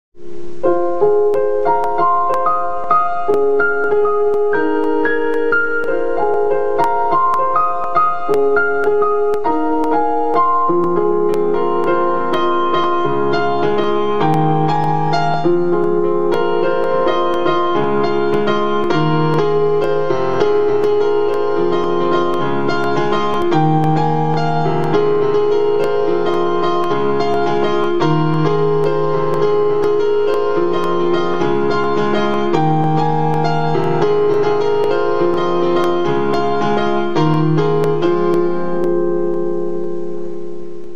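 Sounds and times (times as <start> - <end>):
gentle piano melody: 0.2 - 40.9.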